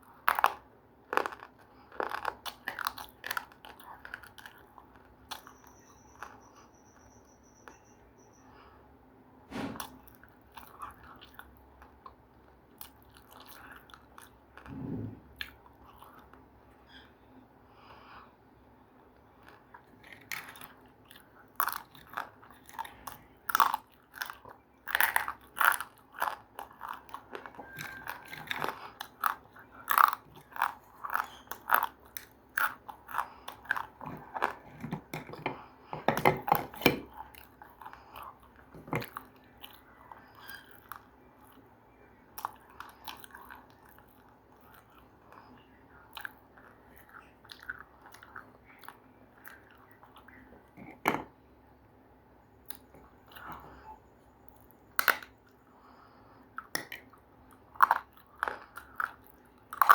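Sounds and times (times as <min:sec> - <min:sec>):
person chewing crunchy food: 0:00.0 - 0:06.8, 0:09.6 - 0:14.7, 0:15.3 - 0:16.6, 0:19.2 - 0:51.3, 0:52.6 - 0:59.9.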